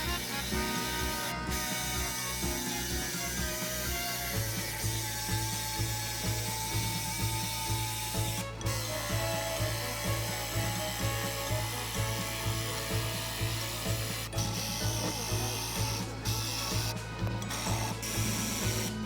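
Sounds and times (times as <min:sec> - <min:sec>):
background music with steady beat: 0:00.0 - 0:19.0
power tool running on wood: 0:00.0 - 0:19.0.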